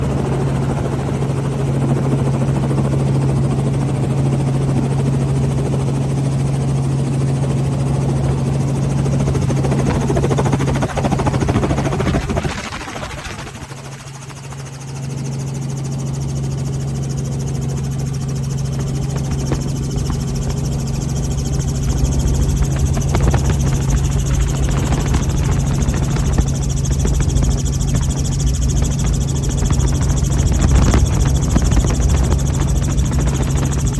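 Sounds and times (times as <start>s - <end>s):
small aircraft engine drone: 0.0s - 33.9s.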